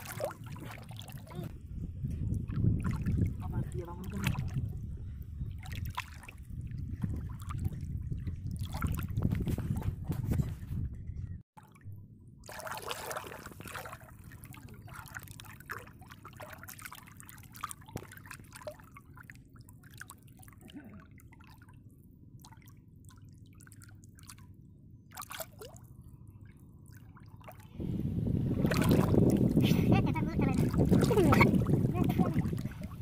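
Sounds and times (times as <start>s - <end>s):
water lapping and dripping: 0.0s - 10.6s, 11.6s - 27.8s, 28.4s - 33.0s.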